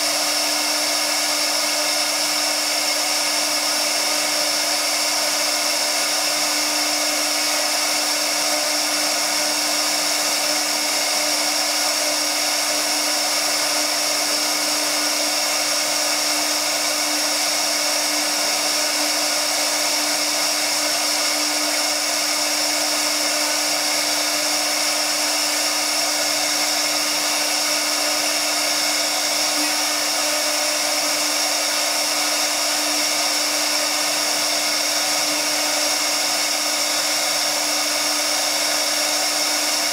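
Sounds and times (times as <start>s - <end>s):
router spindle humming: 0.0s - 39.9s.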